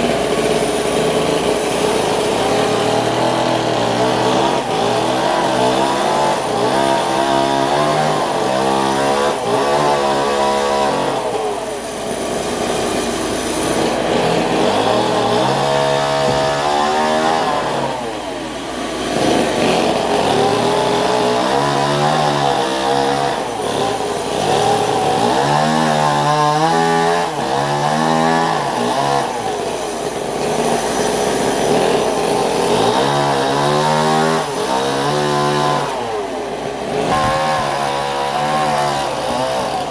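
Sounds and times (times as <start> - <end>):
engine saw cutting timber: 0.0 - 39.9.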